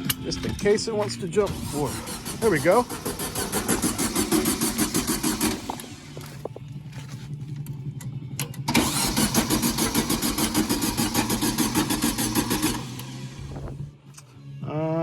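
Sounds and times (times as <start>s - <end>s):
engine cranking without starting: 0.0s - 7.8s, 8.4s - 13.9s.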